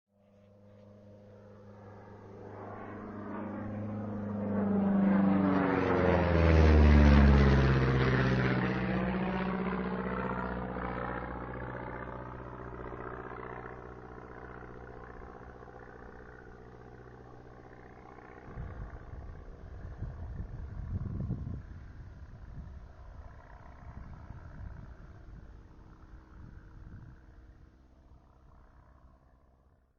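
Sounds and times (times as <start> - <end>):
propeller airplane flying over: 0.1 - 29.9.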